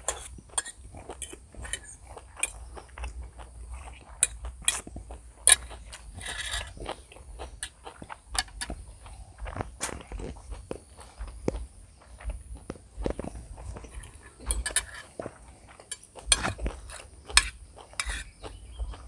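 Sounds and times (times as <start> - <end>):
person chewing and biting: 0.0 - 19.0.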